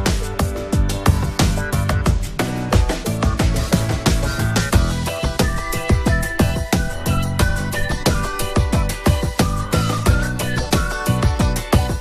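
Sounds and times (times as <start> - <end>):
electronic music with fast drum beat: 0.0 - 12.0.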